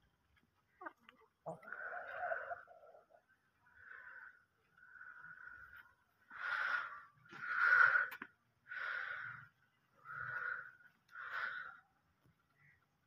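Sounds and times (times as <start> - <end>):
chicken hoarse calls: 0.7 - 11.8.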